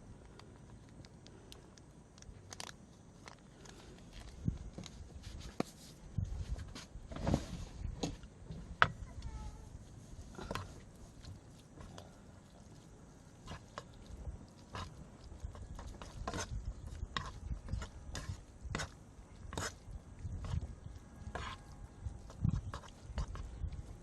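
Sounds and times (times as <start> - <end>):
chewing and eating: 0.1 - 5.2, 9.7 - 24.0.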